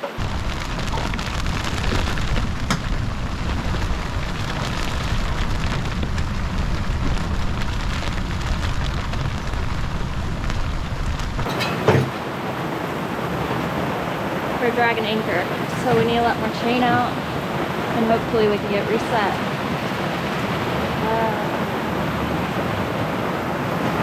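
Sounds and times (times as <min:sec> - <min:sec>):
rain pattering: 0:00.0 - 0:24.0
storm wind buffeting microphone: 0:00.0 - 0:24.0.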